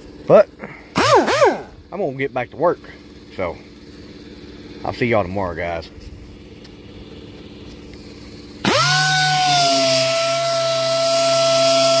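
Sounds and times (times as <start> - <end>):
orbital sander whining: 0.0 - 2.0, 3.1 - 12.0.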